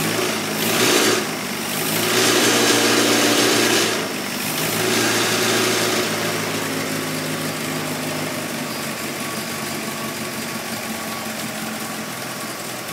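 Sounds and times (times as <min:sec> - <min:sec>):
engine running steadily: 0:00.0 - 0:12.9.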